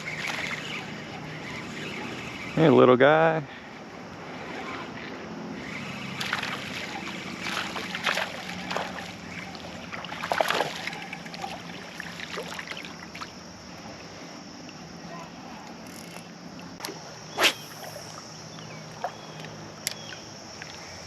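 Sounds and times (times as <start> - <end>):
water splashing and sloshing: 0.0 - 2.5, 3.6 - 20.9
flowing creek water: 0.0 - 21.0.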